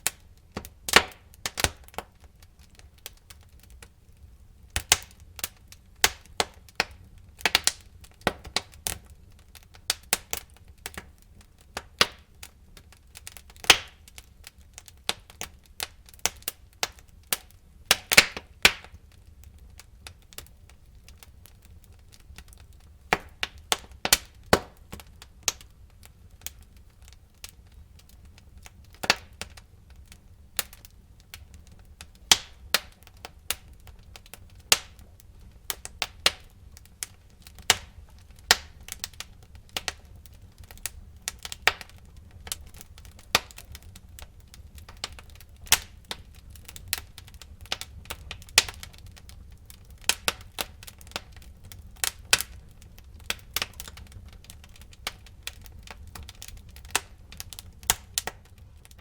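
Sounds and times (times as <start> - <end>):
logs crackling and popping: 0.0 - 59.0
low fire rumble: 0.0 - 59.0.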